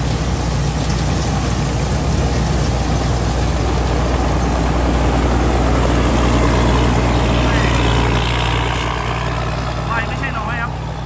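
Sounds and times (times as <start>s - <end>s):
harvester machinery rushing: 0.0s - 11.0s
low engine drone: 0.0s - 11.0s.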